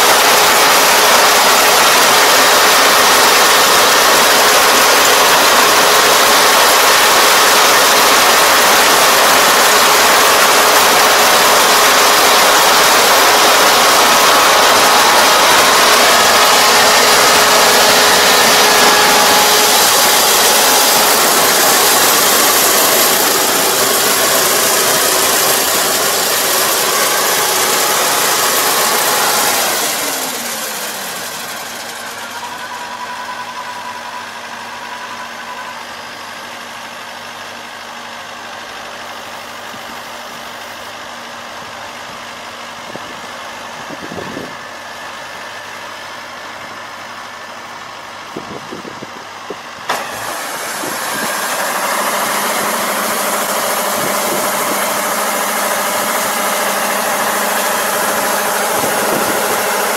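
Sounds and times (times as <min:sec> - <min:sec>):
diesel engine running loudly: 0:00.0 - 0:59.9.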